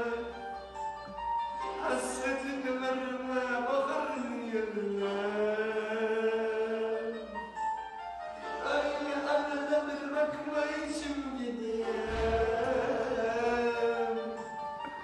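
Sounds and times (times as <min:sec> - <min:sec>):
person singing long notes: 0:00.0 - 0:00.8, 0:01.6 - 0:07.7, 0:08.4 - 0:15.0.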